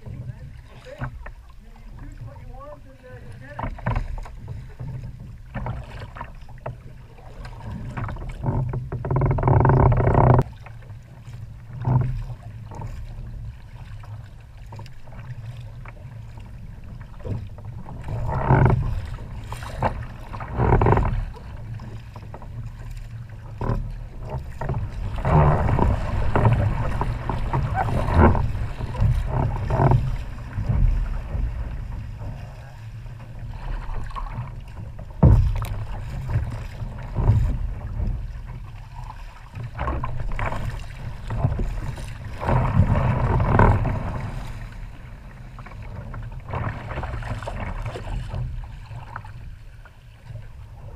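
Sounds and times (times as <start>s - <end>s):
paddle splashing water: 0.0s - 50.9s
water slapping hull: 0.0s - 50.9s.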